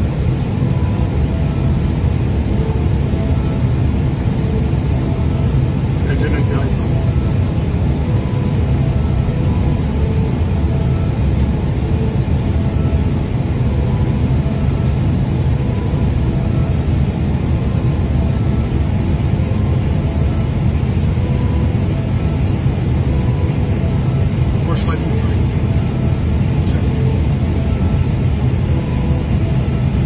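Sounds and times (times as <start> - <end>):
cockpit airflow and engine drone: 0.0 - 30.0.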